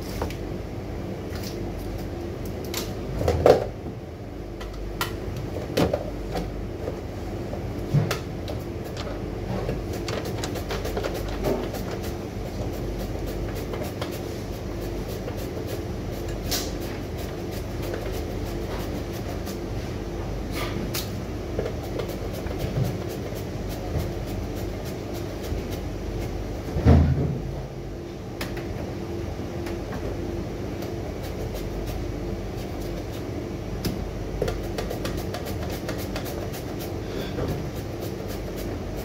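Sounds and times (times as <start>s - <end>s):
air conditioner humming: 0.0s - 39.0s.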